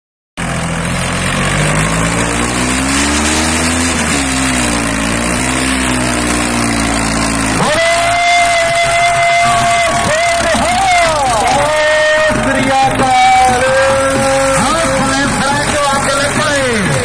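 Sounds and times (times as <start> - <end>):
tractor diesel engine revving: 0.4 - 17.0.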